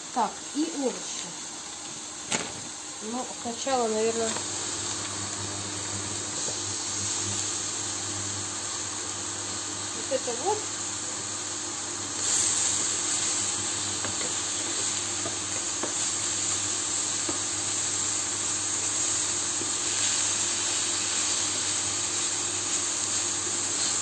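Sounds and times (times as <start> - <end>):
chicken sizzling in a frying pan: 0.0 - 24.0.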